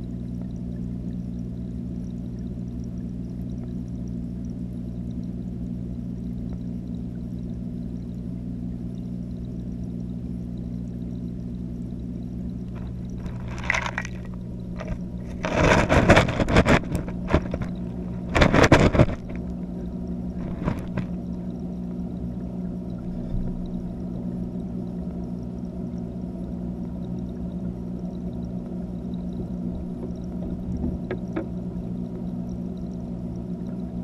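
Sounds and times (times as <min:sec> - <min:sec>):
bursts of water noise: 0:00.0 - 0:34.0
low electrical hum underwater: 0:00.0 - 0:34.0.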